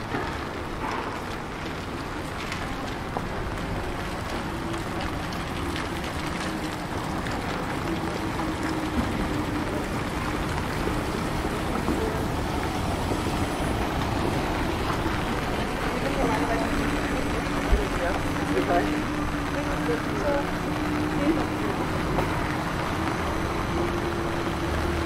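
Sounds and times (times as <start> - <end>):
electric bus humming: 0.0 - 25.0
tyres on wet cobblestones: 0.0 - 25.0.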